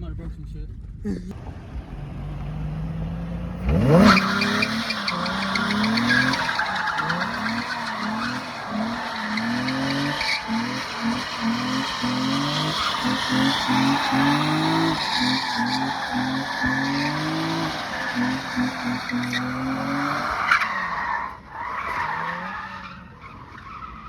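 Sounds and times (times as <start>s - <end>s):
car engine revving hard: 1.3s - 20.9s
tyres squealing: 1.7s - 24.0s.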